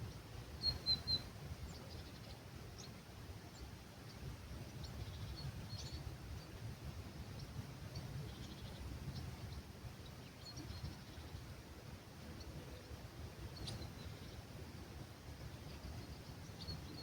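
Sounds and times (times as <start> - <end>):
low breeze rumble: 0.0 - 17.0
songbirds chirping: 0.0 - 17.0.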